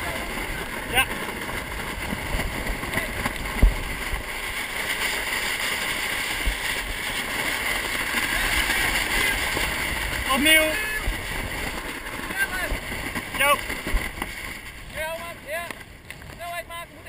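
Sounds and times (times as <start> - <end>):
water rushing along boat hull: 0.0 - 16.7
wind noise on microphone: 0.0 - 17.0.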